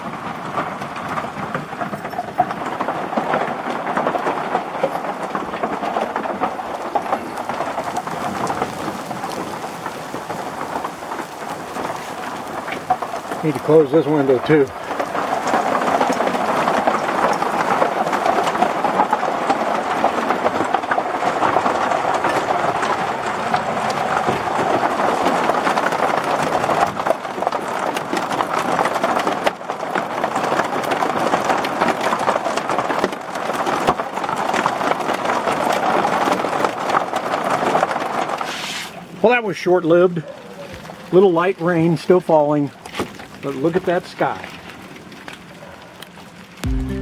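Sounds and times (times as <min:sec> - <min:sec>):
heavy rain on roof: 0:00.0 - 0:47.0.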